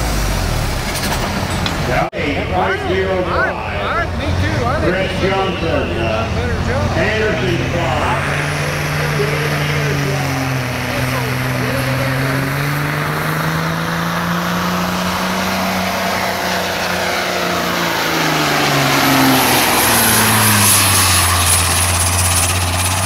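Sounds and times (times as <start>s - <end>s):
diesel truck engine at full throttle: 0.0s - 23.0s.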